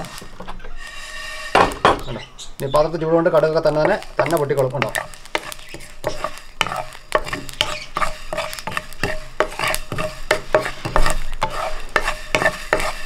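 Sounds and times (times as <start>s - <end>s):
spatula stirring seeds in a pan: 0.0s - 13.0s
seeds popping: 1.6s - 13.0s.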